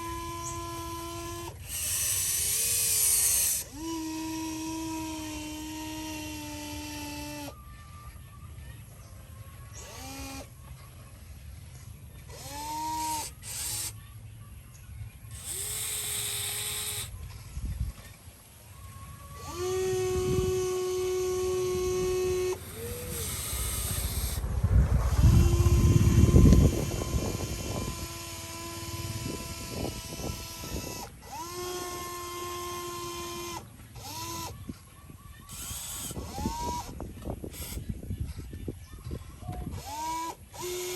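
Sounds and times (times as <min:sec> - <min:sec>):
small electric motor whining: 0:00.0 - 0:08.4, 0:09.6 - 0:10.9, 0:12.2 - 0:14.1, 0:15.3 - 0:18.2, 0:18.8 - 0:40.9.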